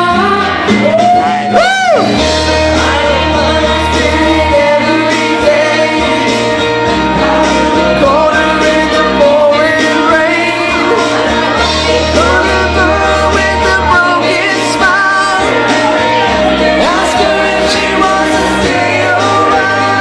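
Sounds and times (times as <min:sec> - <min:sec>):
backing track through speakers: 0:00.0 - 0:20.0
woman and man singing karaoke: 0:00.0 - 0:20.0.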